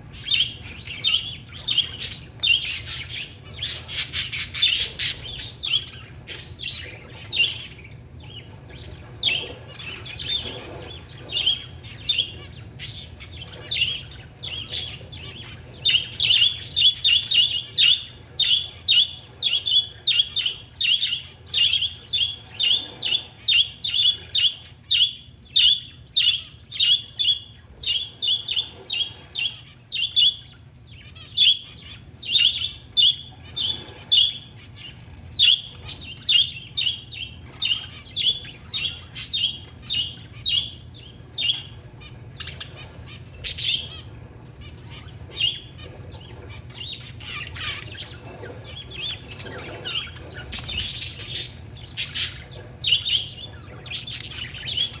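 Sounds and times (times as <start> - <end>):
birds chattering: 0.0 - 55.0.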